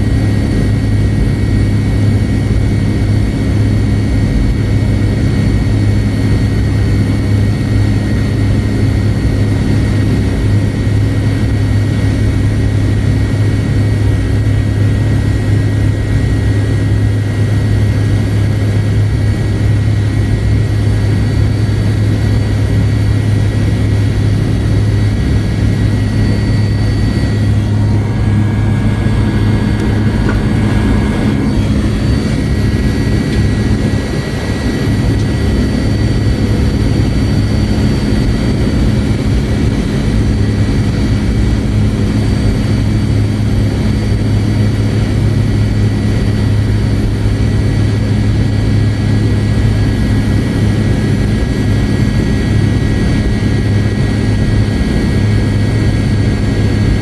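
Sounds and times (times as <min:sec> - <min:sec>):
jet engine hum and whine: 0:00.0 - 0:57.0.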